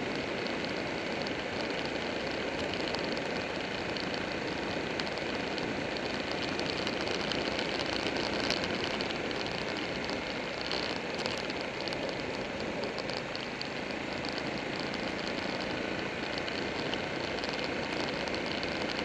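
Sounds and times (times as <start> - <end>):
motorcycle engine and road noise: 0.0 - 19.0.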